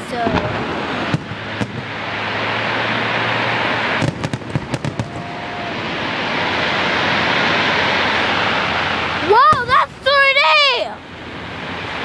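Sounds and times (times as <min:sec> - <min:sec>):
fireworks crackling: 0:00.0 - 0:12.0
fireworks sharp bangs: 0:00.0 - 0:12.0.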